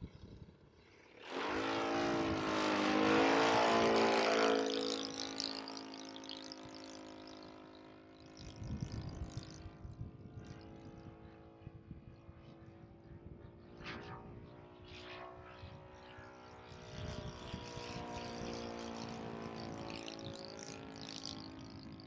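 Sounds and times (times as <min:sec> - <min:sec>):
model plane engine droning: 0:00.0 - 0:22.0.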